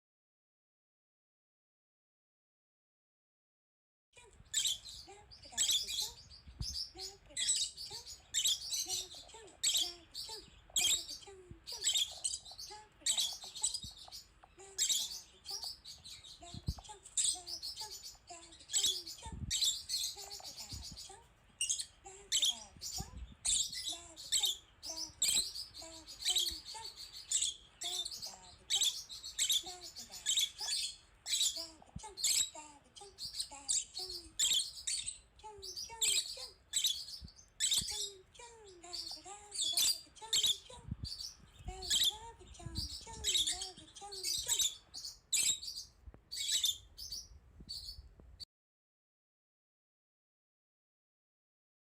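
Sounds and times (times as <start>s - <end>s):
lovebird chirping: 4.3s - 48.1s.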